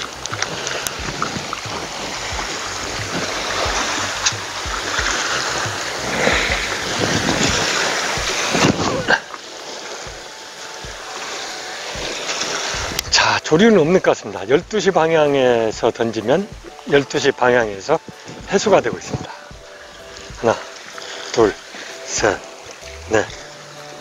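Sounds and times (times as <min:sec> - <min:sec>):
waves washing against rocks: 0:00.0 - 0:24.0.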